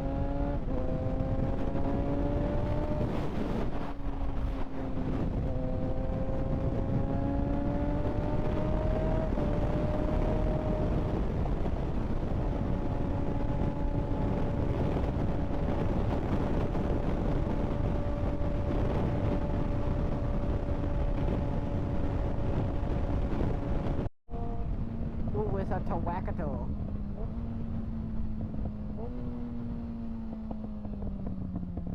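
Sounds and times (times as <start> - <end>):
motorcycle engine cruising: 0.0 - 31.9
wind rush on microphone: 0.0 - 31.9.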